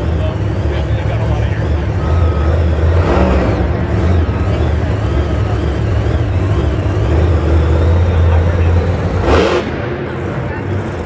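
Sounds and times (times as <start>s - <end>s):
truck engine revving loudly: 0.0s - 11.0s.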